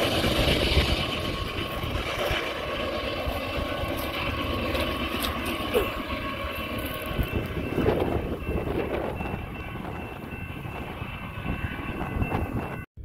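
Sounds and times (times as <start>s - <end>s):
freight train wheels rumbling: 0.0s - 12.9s
wind buffeting microphone: 0.0s - 12.9s.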